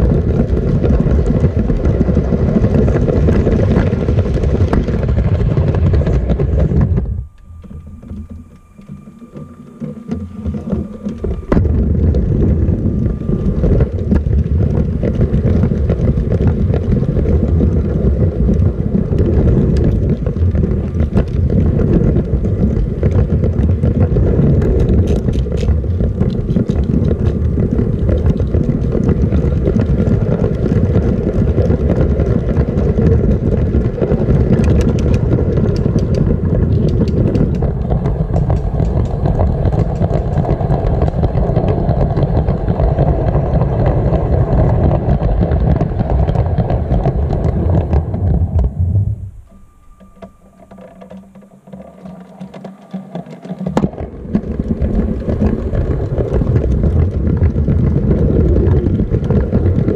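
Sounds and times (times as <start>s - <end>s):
toy train rumbling and rattling: 0.0s - 48.6s.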